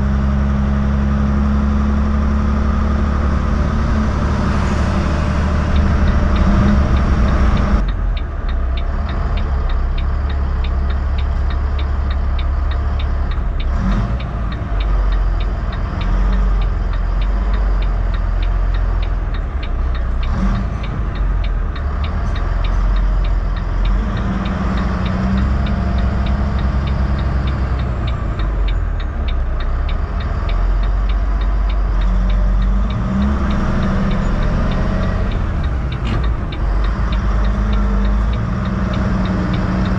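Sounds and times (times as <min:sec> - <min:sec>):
heavy truck engine drone: 0:00.0 - 0:39.9
fast even ticking: 0:01.8 - 0:39.9.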